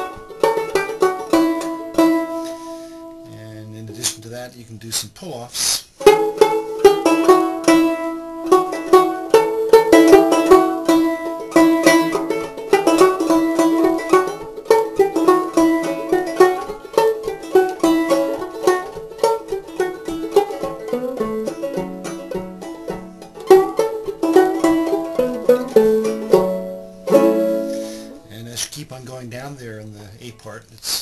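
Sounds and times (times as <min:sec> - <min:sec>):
banjo plucked melody: 0:00.0 - 0:04.7, 0:05.9 - 0:30.6.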